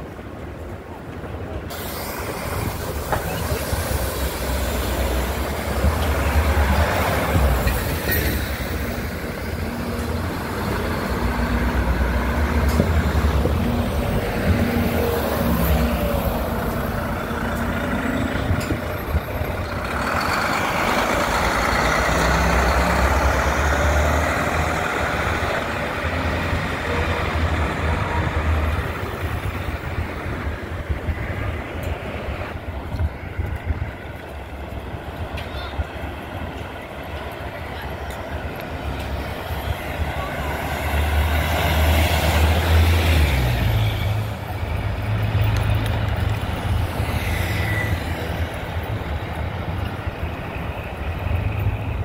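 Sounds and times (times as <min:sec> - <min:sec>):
buses driving past: 0:00.0 - 0:52.0
street traffic: 0:00.0 - 0:52.0.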